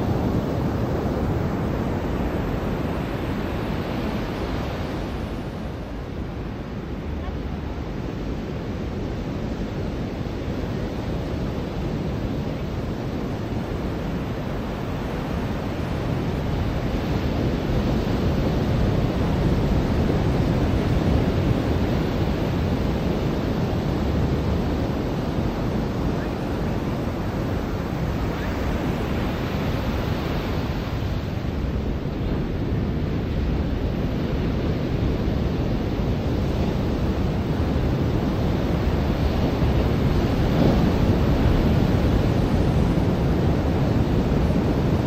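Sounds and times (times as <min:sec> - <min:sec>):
ocean surf washing ashore: 0:00.0 - 0:45.0.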